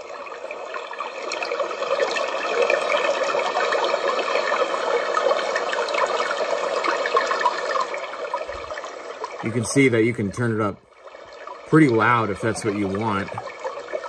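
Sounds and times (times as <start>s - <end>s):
running water through small speaker: 0.0s - 14.0s.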